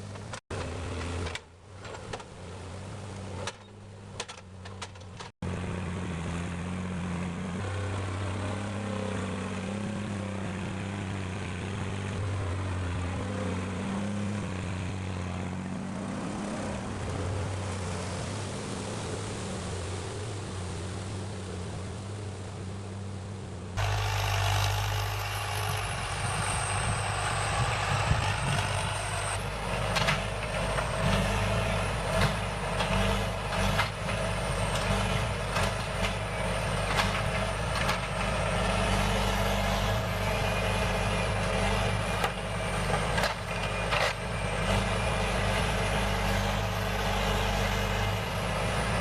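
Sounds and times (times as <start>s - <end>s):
diesel engine droning under load: 0.0s - 49.0s.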